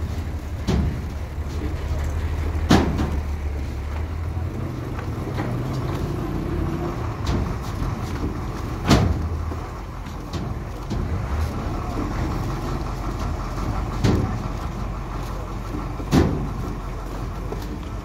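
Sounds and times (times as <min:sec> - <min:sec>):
truck diesel engine rumbling: 0:00.0 - 0:18.0.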